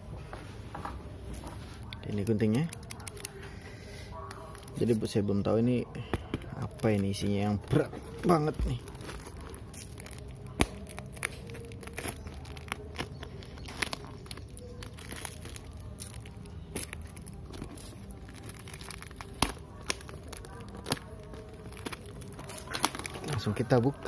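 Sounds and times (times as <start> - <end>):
plastic wrapping crinkling: 1.1 - 24.0.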